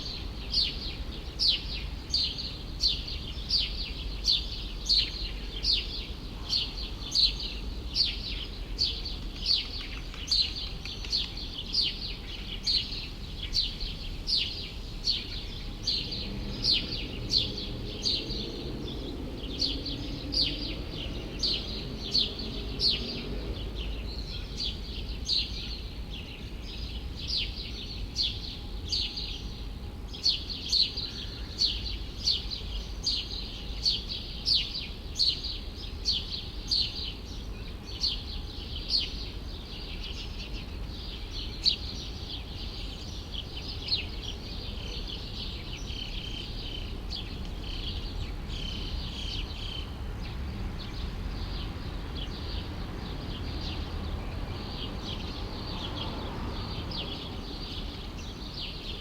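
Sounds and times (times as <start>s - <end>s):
bird chirping: 0.0s - 29.6s, 30.2s - 59.0s
low city rumble: 0.0s - 59.0s.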